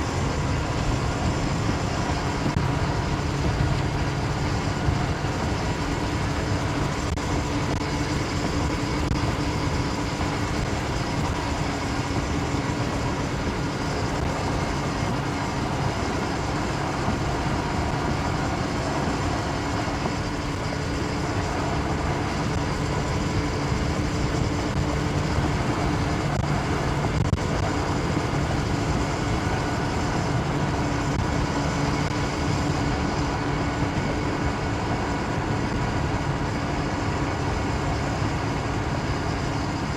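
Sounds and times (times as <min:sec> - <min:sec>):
machine running steadily: 0:00.0 - 0:39.9.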